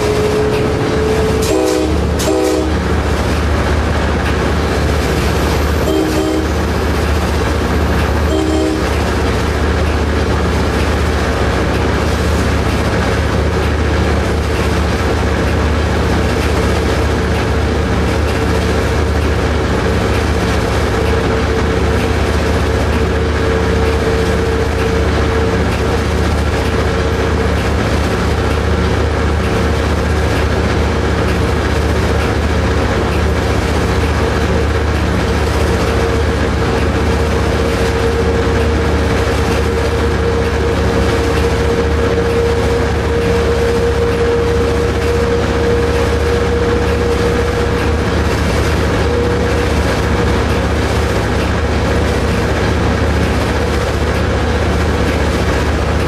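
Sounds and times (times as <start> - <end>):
locomotive engine drone: 0.0 - 56.0
wheels rumbling on rail: 0.0 - 56.0.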